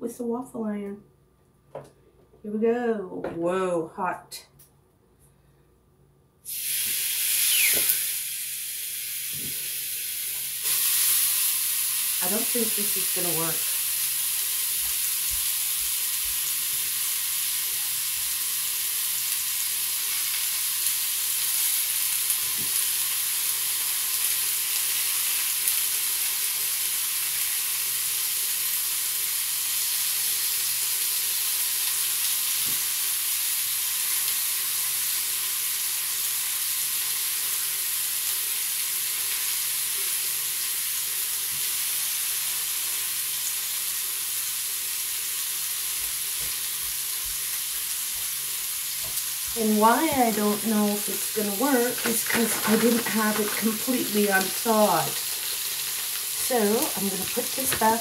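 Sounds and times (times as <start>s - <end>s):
bacon sizzling in waffle iron: 6.4s - 58.0s.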